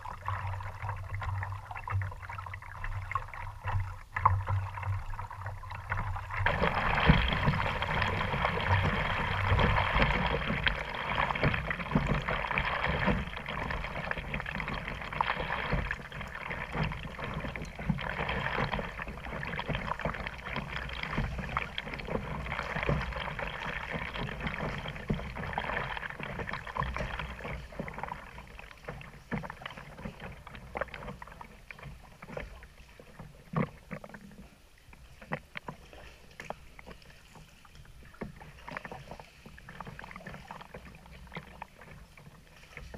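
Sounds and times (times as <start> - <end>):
water lapping around kayak hull: 0.0 - 42.9.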